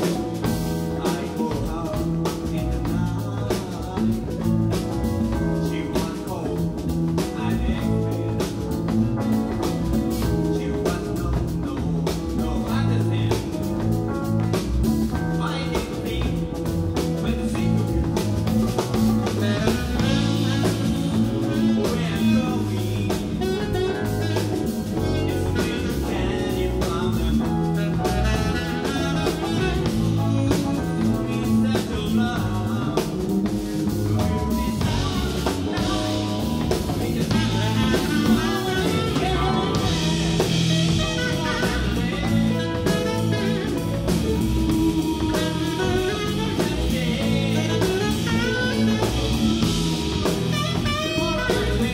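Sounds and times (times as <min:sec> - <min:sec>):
live jazz blues band: 0:00.0 - 0:51.9
saxophone lead: 0:00.0 - 0:51.9.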